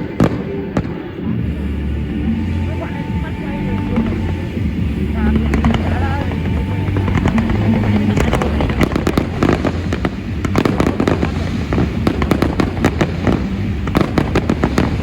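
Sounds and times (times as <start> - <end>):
fireworks popping and cracking: 0.0 - 15.0
low rumble: 0.0 - 15.0.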